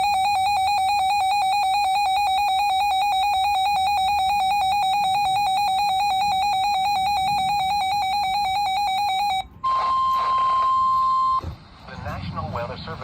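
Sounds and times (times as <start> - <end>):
radio alarm beeping rapidly: 0.0 - 11.4
steady warning tone: 0.0 - 11.4.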